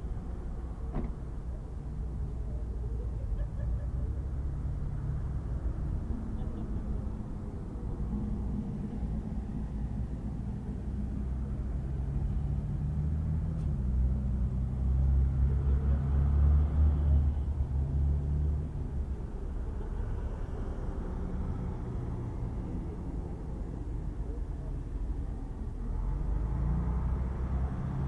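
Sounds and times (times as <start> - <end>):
bus engine rumbling: 0.0 - 28.0.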